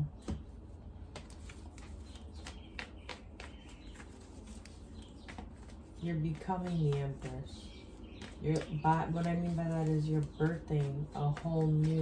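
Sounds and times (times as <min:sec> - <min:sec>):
cards being shuffled: 0:01.0 - 0:12.0.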